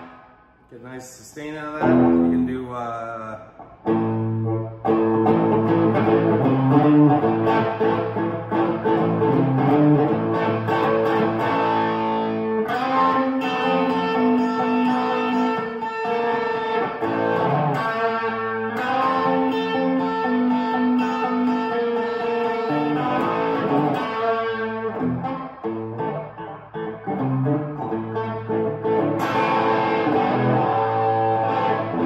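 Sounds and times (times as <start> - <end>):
overdriven electric guitar riff: 0.0 - 0.7, 1.5 - 32.0.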